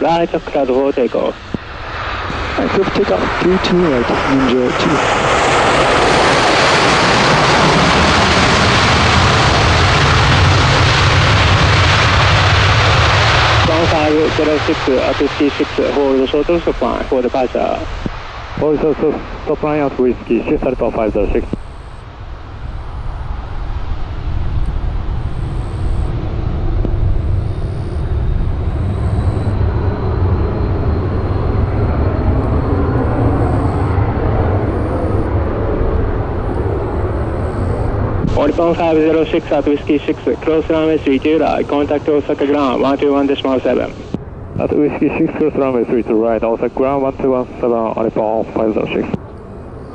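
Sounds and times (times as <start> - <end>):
jet engines roaring: 0.0 - 49.9
low rumble: 0.0 - 49.9.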